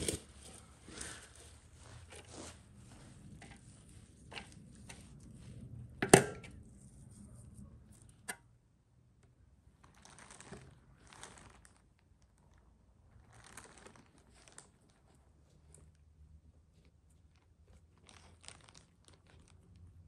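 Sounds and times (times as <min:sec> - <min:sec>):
soft rustling of filling: 0:00.1 - 0:08.3, 0:09.2 - 0:20.0.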